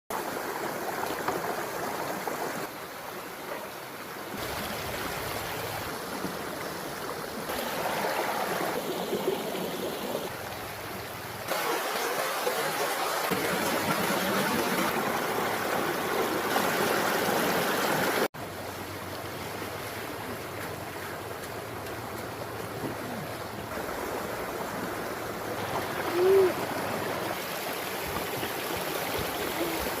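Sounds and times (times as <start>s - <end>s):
stream water running: 0.1s - 30.0s.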